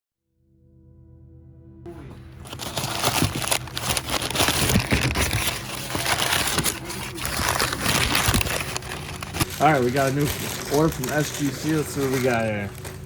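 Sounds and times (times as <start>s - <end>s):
package crunching and crinkling: 2.4s - 13.0s.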